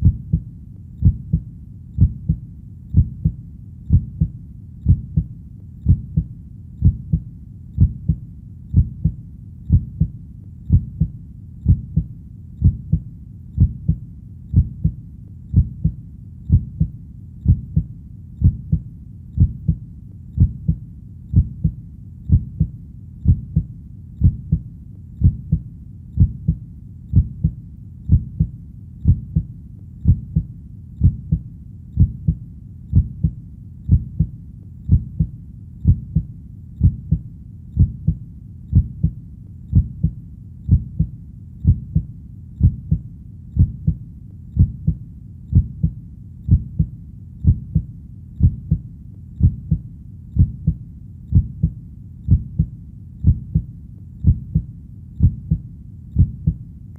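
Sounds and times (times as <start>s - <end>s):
heartbeat thumps: 0.0s - 56.6s.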